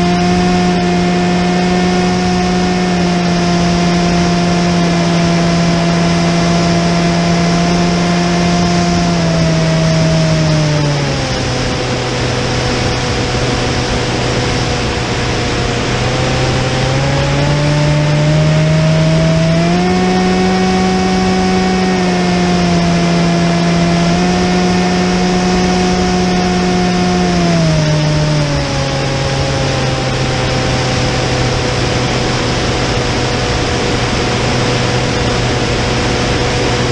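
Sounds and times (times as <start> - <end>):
model aeroplane motor humming: 0.0 - 36.9
wind noise on microphone: 0.0 - 36.9.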